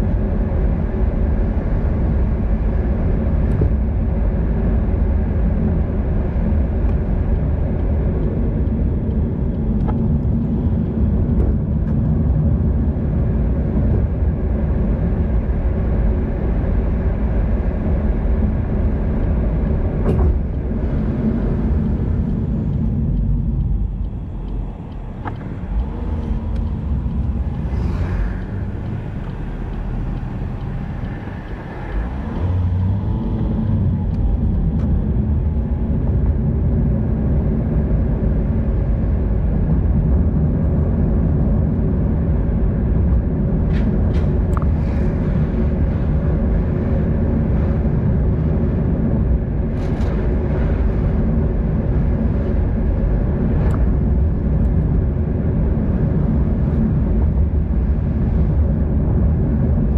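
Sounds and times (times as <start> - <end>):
passing motor traffic: 0.0 - 59.9
wind rumble on microphone: 0.0 - 59.9.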